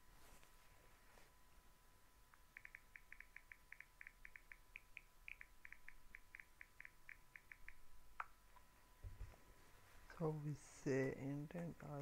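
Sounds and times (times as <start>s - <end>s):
faint electrical whine: 0.0s - 12.0s.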